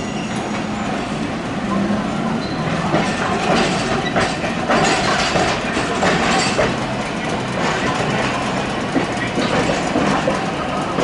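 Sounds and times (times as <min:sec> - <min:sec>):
tram running rumble: 0:00.0 - 0:11.0
wheels clacking over rail joints: 0:01.7 - 0:11.0.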